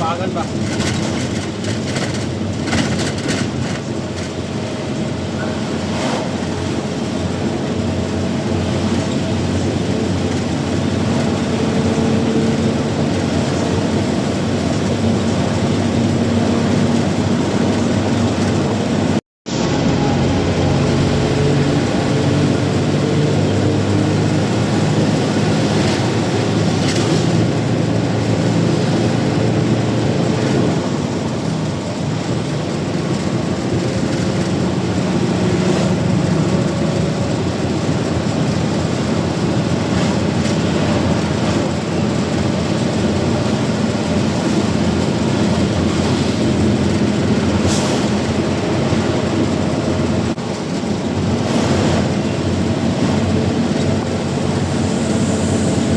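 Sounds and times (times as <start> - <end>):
road noise: 0.0 - 55.9
truck engine running: 0.0 - 55.9.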